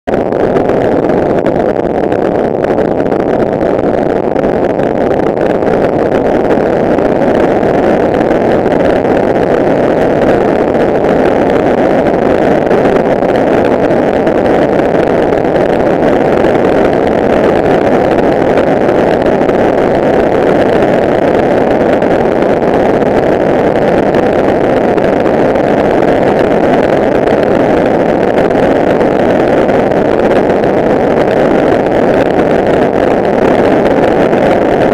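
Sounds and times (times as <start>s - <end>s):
wind rushing on microphone: 0.0s - 34.9s.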